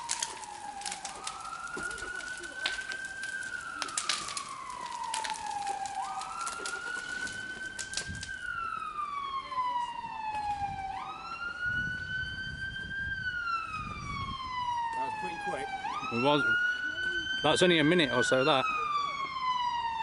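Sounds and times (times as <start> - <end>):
fire cracking and popping: 0.0 - 19.8
siren wailing: 0.0 - 20.0.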